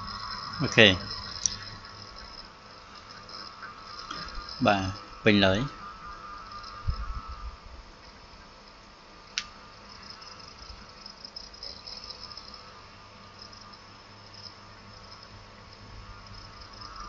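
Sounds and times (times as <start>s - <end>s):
faint insect chirring: 0.0s - 17.0s.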